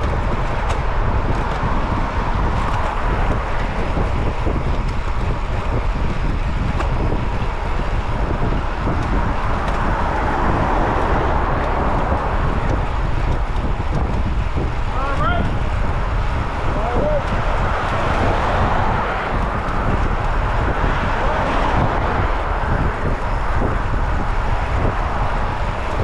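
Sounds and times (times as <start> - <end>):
road and traffic noise: 0.0 - 26.0
wind rushing over microphone: 0.0 - 26.0.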